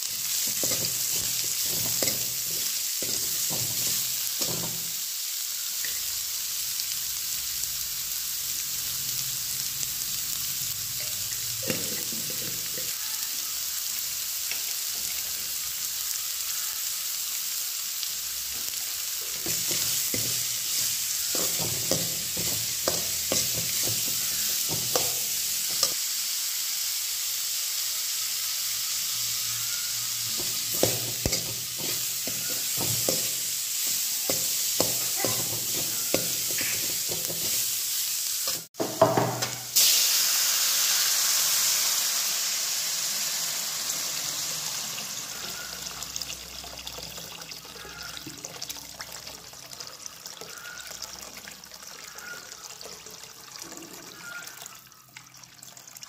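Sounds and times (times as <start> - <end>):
food sizzling in wok: 0.0 - 55.0.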